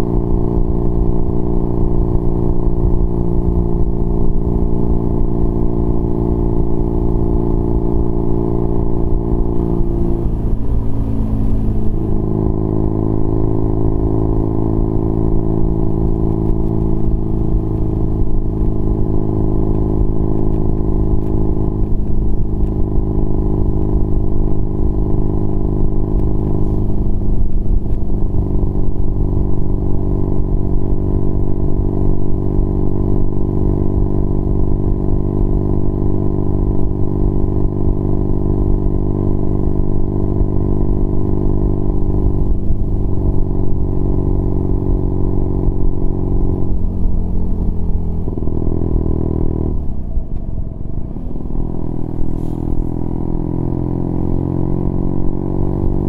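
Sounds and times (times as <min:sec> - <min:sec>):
motorcycle engine at road speed: 0:00.0 - 0:56.0.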